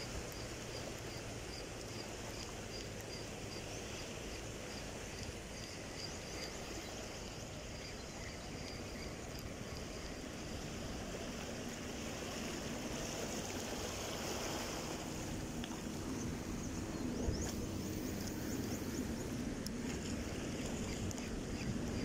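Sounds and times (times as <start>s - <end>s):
small waves lapping: 0.0s - 22.0s
wind rumbling on microphone: 0.0s - 22.0s.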